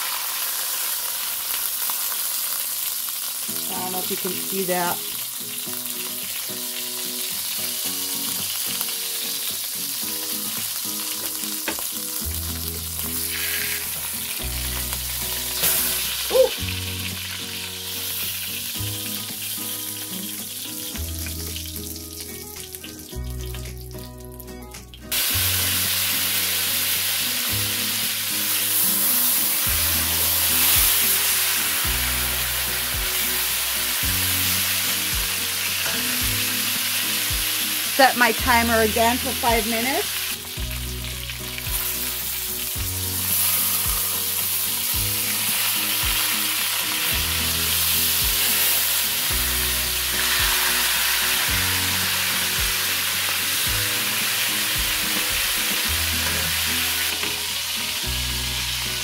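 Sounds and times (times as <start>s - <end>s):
chicken sizzling in hot fat: 0.0s - 59.0s.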